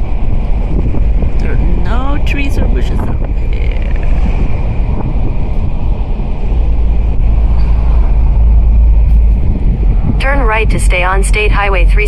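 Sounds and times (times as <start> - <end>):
car engine and road noise: 0.0 - 12.0
wind buffeting microphone: 0.0 - 12.0.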